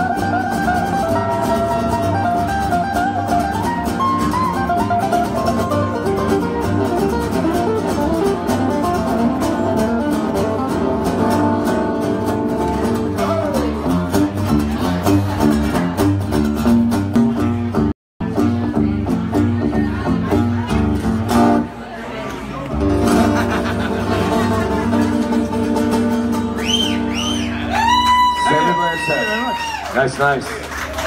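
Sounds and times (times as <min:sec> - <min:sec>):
acoustic guitar strumming: 0:00.0 - 0:21.9, 0:22.7 - 0:28.8
acoustic guitar lead line: 0:00.0 - 0:29.8.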